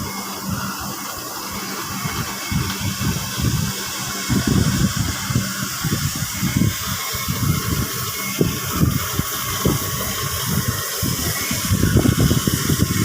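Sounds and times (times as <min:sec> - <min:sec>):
cutting torch hissing: 0:00.0 - 0:13.0.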